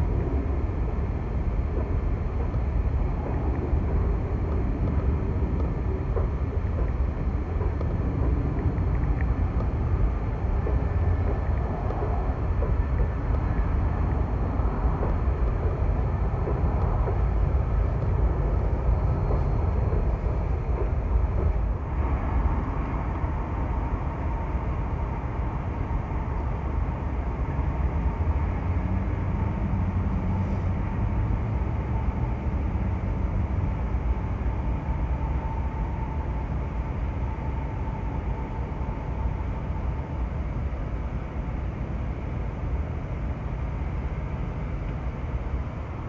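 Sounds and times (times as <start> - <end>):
faint steady tone: 0.0 - 46.0
train rumbling by: 0.0 - 46.0.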